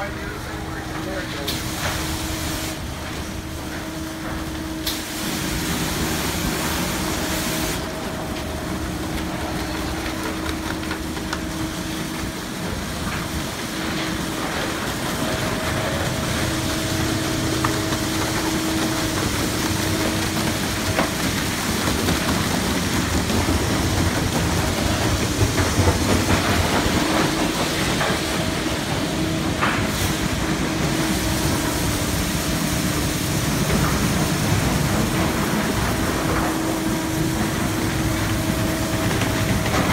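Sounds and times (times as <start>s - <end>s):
machinery humming tone: 0.0s - 39.9s
water jets spraying onto car: 4.5s - 39.9s.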